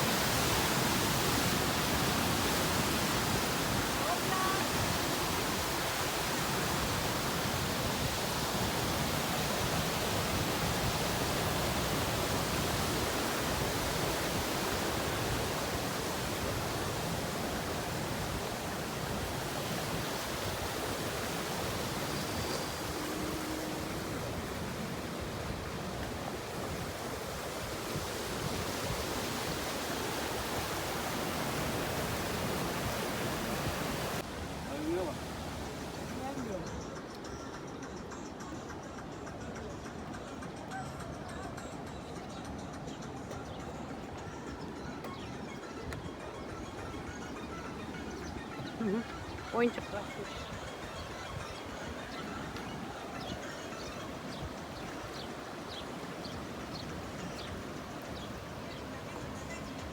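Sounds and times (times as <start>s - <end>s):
waterfall rushing: 0.0s - 36.8s, 46.2s - 59.9s.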